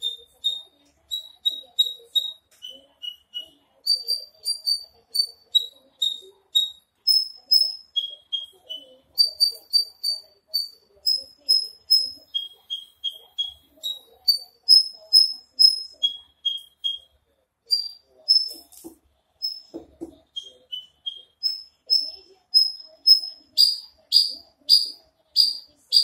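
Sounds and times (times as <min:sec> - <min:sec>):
bird singing whistled notes: 0:00.0 - 0:17.1, 0:17.7 - 0:18.7, 0:19.4 - 0:26.0.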